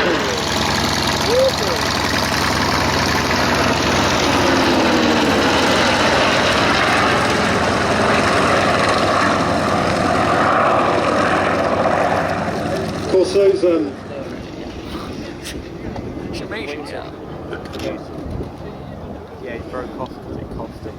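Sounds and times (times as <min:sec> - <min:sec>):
propeller plane engine droning: 0:00.0 - 0:20.9.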